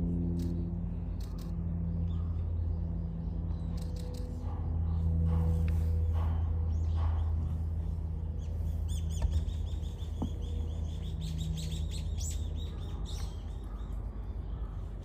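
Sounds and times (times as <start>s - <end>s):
steady low hum: 0.0s - 15.0s
small birds chirping: 0.4s - 15.0s.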